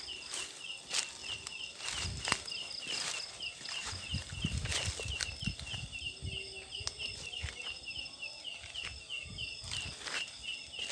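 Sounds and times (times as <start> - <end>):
insect chirping: 0.0 - 10.9.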